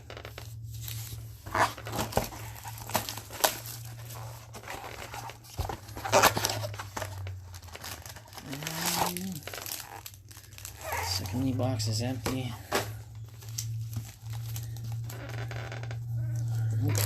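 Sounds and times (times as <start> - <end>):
plastic wrapper crinkling: 0.0 - 17.0
steady low hum: 0.0 - 17.0.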